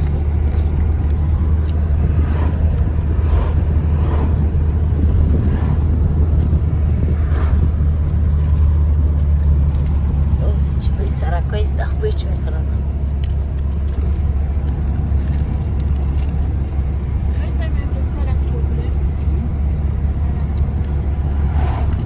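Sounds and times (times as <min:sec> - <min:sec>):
low rumble of car in motion: 0:00.0 - 0:22.0.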